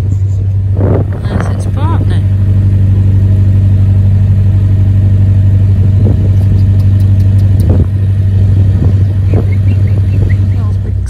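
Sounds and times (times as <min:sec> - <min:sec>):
diesel boat engine humming: 0:00.0 - 0:11.0.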